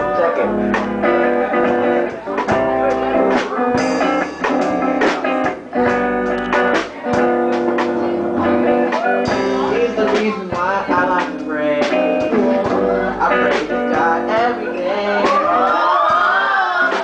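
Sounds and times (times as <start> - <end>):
man singing: 0.0 - 5.0, 6.7 - 17.0
electric guitar strumming chords: 0.0 - 15.2.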